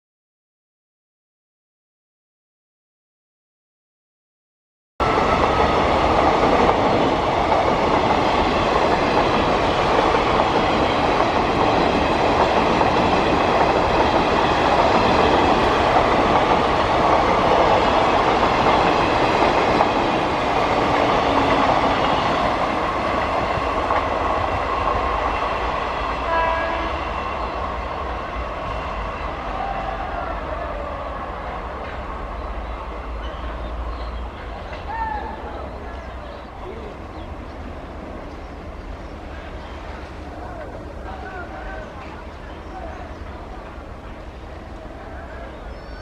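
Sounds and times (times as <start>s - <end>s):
train wheels rumbling on rail: 5.0s - 46.0s.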